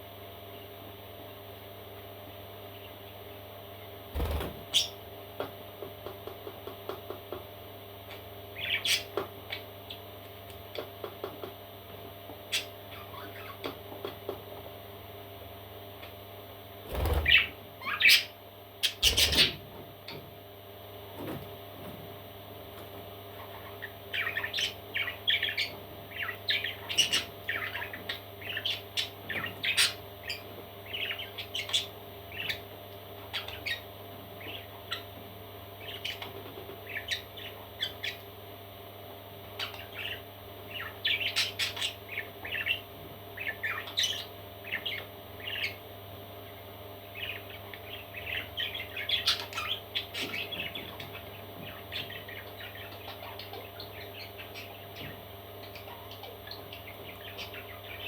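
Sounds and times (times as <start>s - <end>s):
parrot chicks chirping and squawking: 3.8s - 16.3s, 16.9s - 20.4s, 21.2s - 38.6s, 39.2s - 58.0s.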